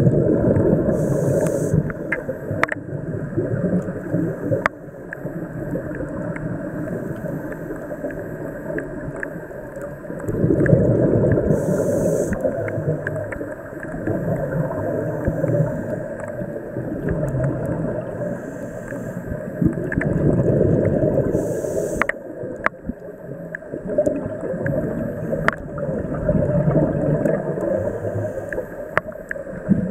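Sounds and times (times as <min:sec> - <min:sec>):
regulator bubbling underwater: 0:00.0 - 0:29.9.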